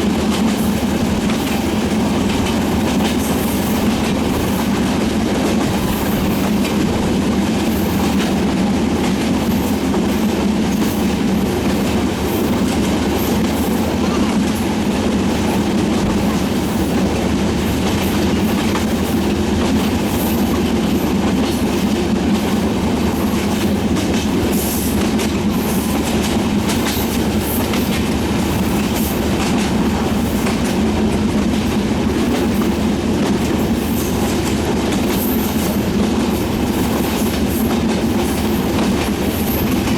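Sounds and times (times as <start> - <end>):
train rumbling over bridge: 0.0 - 39.9
wheels clacking over rail joints: 0.0 - 39.9.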